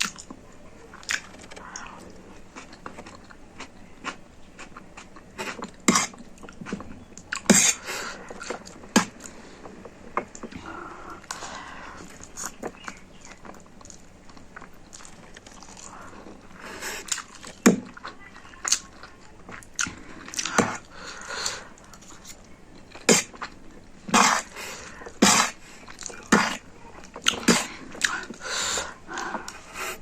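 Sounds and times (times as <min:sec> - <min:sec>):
chewing and biting noodles: 0:00.9 - 0:09.3, 0:11.3 - 0:29.8.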